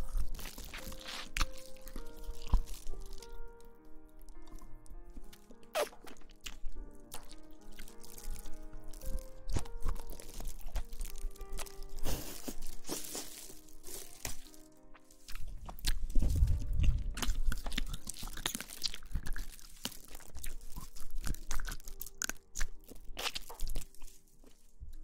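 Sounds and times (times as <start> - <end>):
crinkly rustling: 0.0 - 25.0
soft background music: 0.0 - 25.0.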